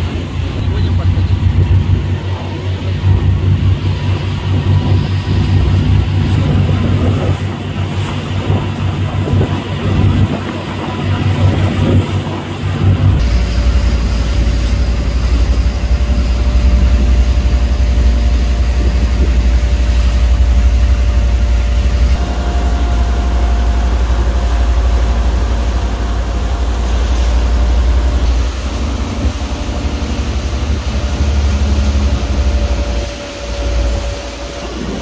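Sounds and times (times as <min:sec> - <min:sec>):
motorboat engine running: 0:00.0 - 0:35.0
rush of water from wake: 0:00.0 - 0:35.0.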